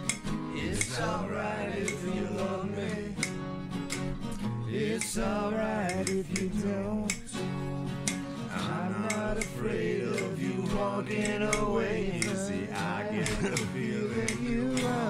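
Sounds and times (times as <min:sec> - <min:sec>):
guitar strumming: 0:00.0 - 0:15.0
person singing without words: 0:00.5 - 0:03.4, 0:04.7 - 0:07.4, 0:08.5 - 0:15.0.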